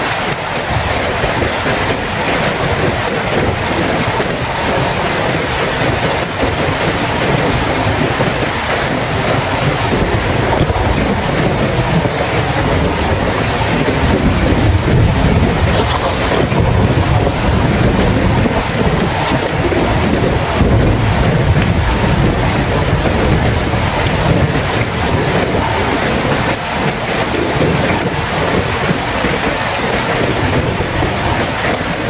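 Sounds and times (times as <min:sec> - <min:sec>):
distant thunder rumbling: 0:00.0 - 0:32.0
heavy rain: 0:00.0 - 0:32.0.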